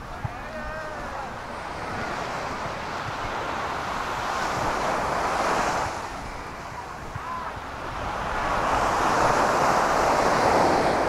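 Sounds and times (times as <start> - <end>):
waves breaking on a beach: 0.0 - 11.0.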